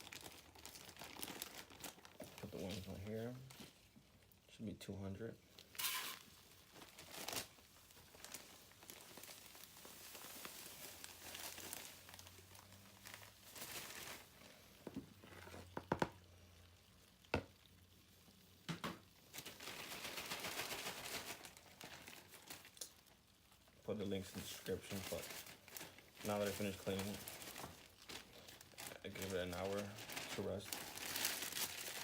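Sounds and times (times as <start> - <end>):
packaging crinkling and rustling: 0.0 - 4.0, 5.5 - 16.3, 18.9 - 32.0.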